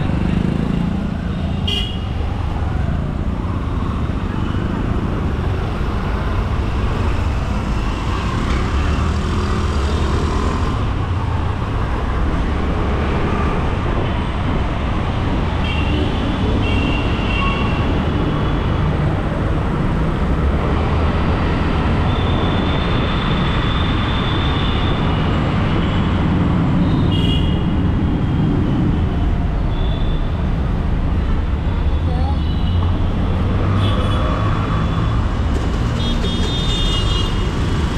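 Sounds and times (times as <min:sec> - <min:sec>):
road traffic noise: 0:00.0 - 0:37.9.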